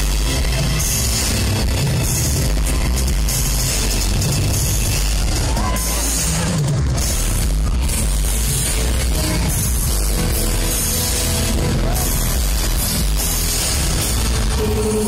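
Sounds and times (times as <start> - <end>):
loud live music with heavy bass: 0.0 - 15.0.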